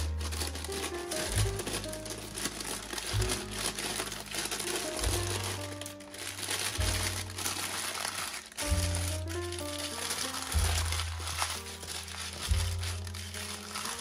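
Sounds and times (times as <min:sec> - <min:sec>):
baking paper crinkling: 0:00.0 - 0:14.0
slow music with deep bass: 0:00.0 - 0:14.0.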